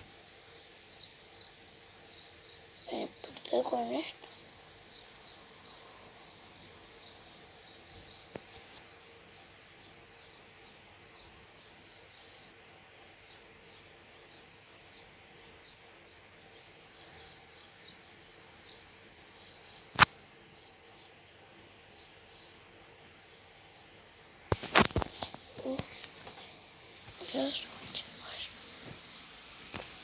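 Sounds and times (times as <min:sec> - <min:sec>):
faint high-pitched chirping: 0:00.0 - 0:21.3, 0:24.6 - 0:30.0
low steady hiss: 0:00.0 - 0:30.0.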